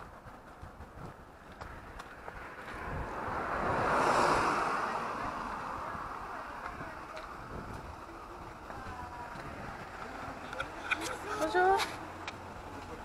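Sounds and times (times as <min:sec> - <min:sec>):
faint footsteps on pavement: 0:00.0 - 0:13.0
vehicle passing: 0:01.2 - 0:13.0.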